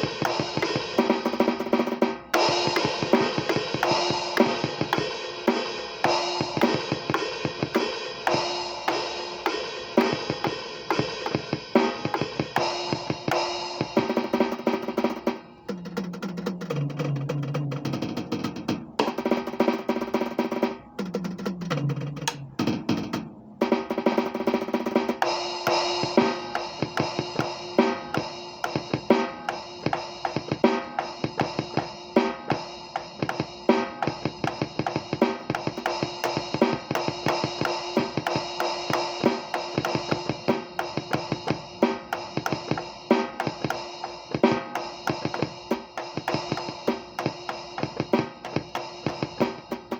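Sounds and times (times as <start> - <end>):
bass drum and snare beat: 0.0 - 49.9
tom drum fills: 0.0 - 49.9.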